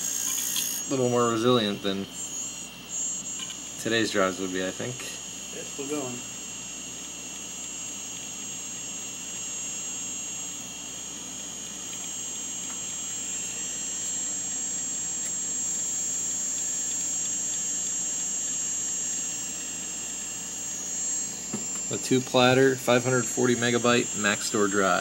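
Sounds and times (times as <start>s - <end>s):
hard disk drive whine: 0.0s - 25.0s.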